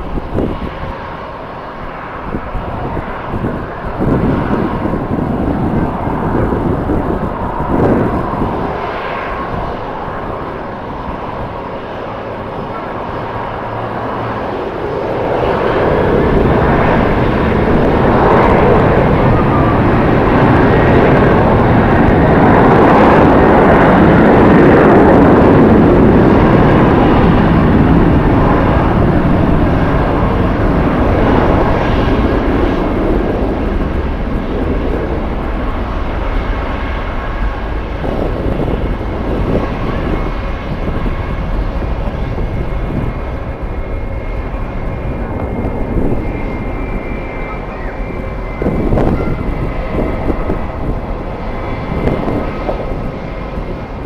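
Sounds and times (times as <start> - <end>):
jet engines roaring: 0.0 - 54.0
wind rumbling on microphone: 0.0 - 54.0.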